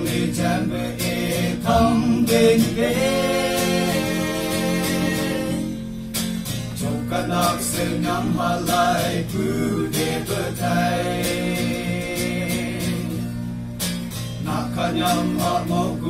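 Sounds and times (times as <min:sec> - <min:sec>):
young men singing together: 0:00.0 - 0:05.9, 0:06.8 - 0:13.3, 0:14.4 - 0:16.0
instrumental backing: 0:00.0 - 0:15.9.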